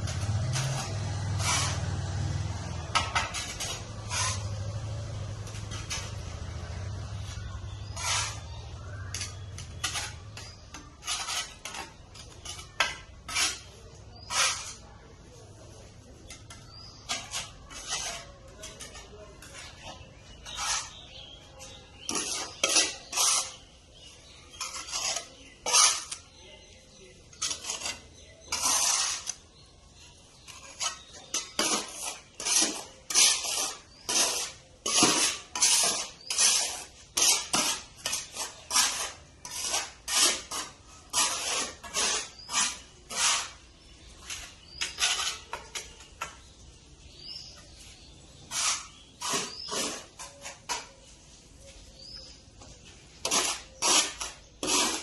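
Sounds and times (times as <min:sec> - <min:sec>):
metal tool scraping hard surface: 0:00.0 - 0:14.9, 0:16.2 - 0:26.7, 0:27.3 - 0:46.4, 0:48.4 - 0:51.1, 0:53.2 - 0:55.0.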